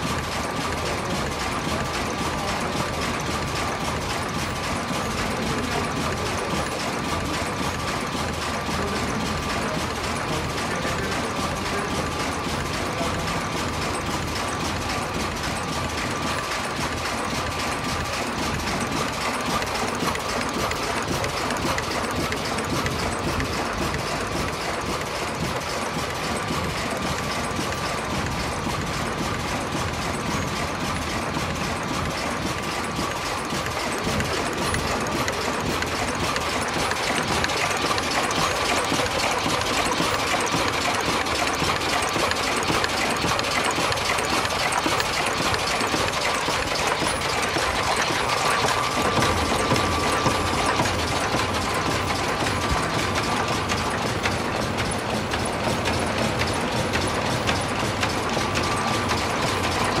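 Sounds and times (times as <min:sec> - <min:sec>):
machine gears clattering: 0:00.0 - 1:00.0.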